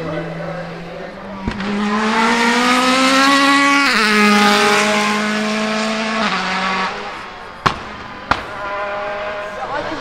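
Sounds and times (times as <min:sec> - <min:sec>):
race car engine accelerating: 0:00.0 - 0:10.0.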